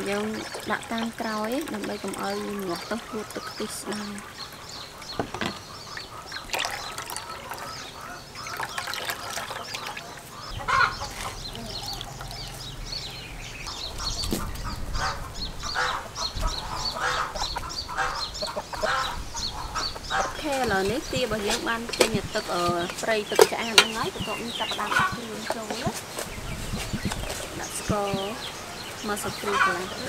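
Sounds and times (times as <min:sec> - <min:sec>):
poultry clucking and honking: 0:00.0 - 0:30.0.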